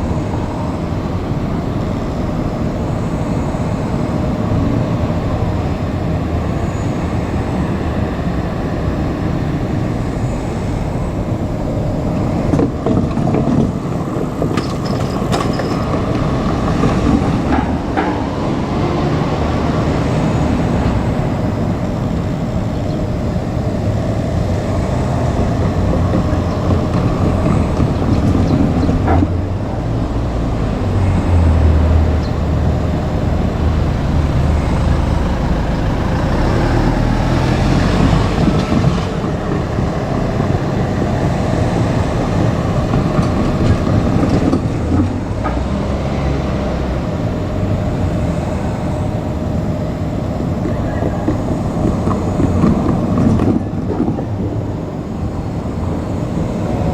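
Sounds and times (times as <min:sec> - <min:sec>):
electric train rumbling: 0:00.0 - 0:56.9.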